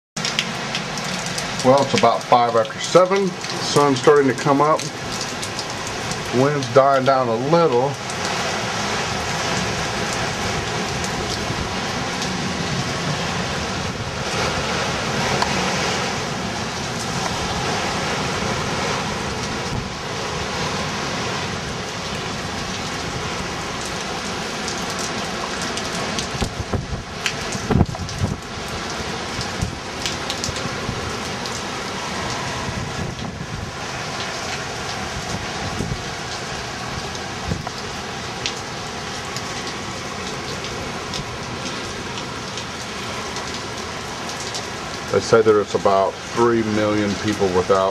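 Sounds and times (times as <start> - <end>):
steady rain: 0.2 - 47.9
wind: 0.2 - 47.9.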